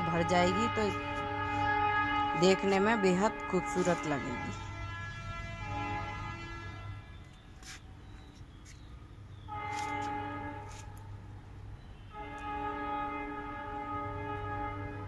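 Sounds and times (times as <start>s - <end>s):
horn blasts: 0.0s - 7.9s, 9.3s - 15.0s.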